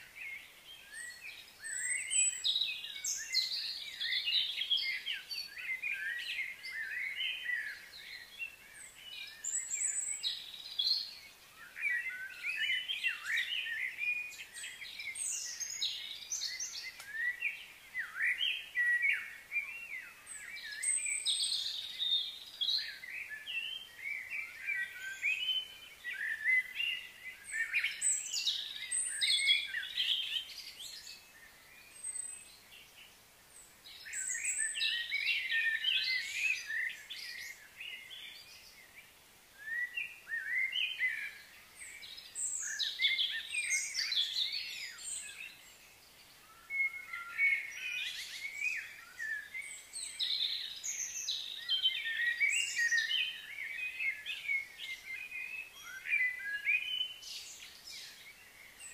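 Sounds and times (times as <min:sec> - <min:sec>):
birds chirping and singing: 0:00.0 - 0:58.9.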